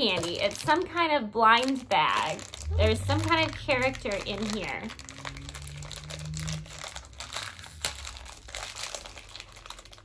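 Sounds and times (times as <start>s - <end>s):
plastic wrapper crinkling and tearing: 0.0s - 10.0s.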